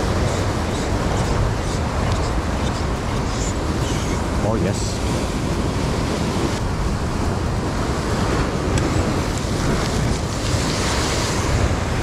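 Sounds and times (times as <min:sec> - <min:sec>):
waves breaking against rocks: 0:00.0 - 0:12.0.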